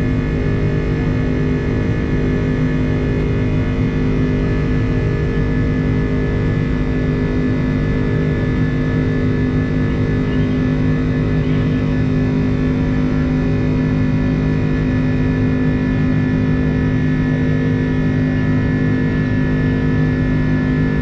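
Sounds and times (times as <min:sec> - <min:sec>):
jet engines droning in cabin: 0:00.0 - 0:21.0.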